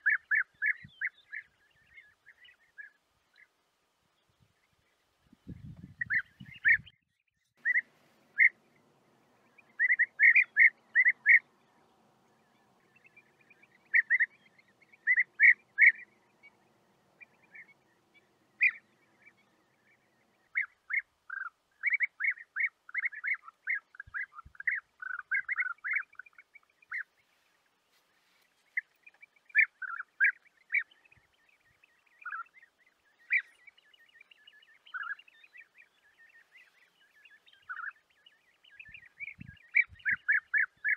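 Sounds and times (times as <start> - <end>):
bee-eaters calling: 0.0 - 3.5, 5.6 - 6.9, 7.6 - 27.2, 28.7 - 40.9.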